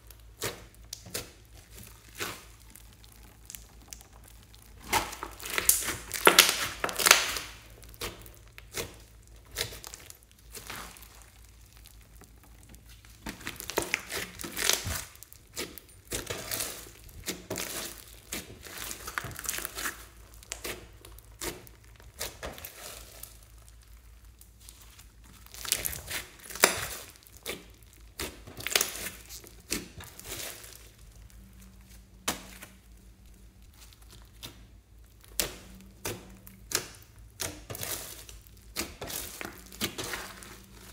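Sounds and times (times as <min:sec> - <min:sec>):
crunchy crackling of foam slime: 0:00.0 - 0:40.9.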